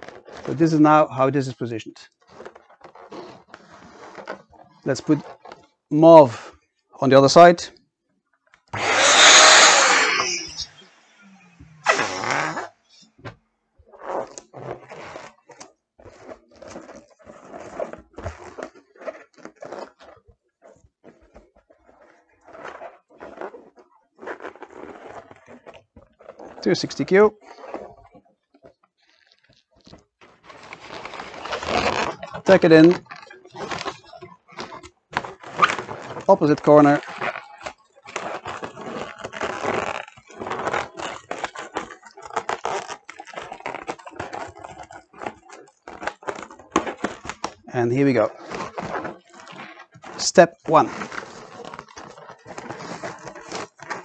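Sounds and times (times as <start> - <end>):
balloon latex rubbing: 0.0 - 1.2, 1.9 - 6.6, 8.6 - 54.0.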